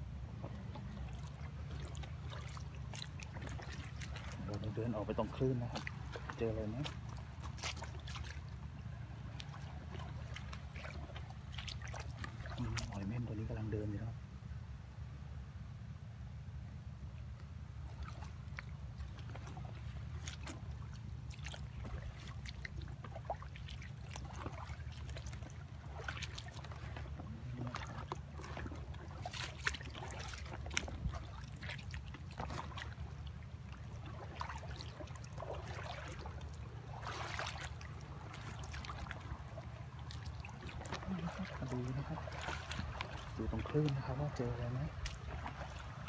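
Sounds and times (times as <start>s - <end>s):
seawater sloshing around rocks: 0.0s - 14.0s, 17.2s - 46.0s
steady low rumble: 0.0s - 46.0s
small clicks and splashes: 0.4s - 13.2s, 17.2s - 46.0s.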